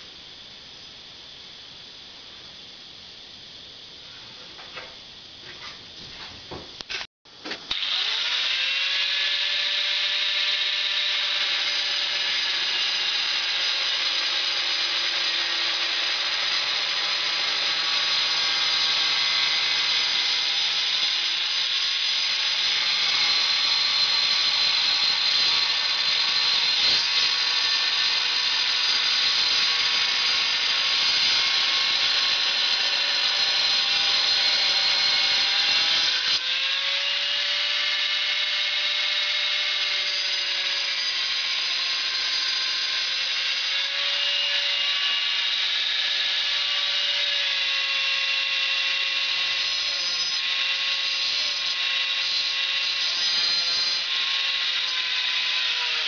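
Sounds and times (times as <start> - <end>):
angle grinder cutting tile: 7.7 - 56.0.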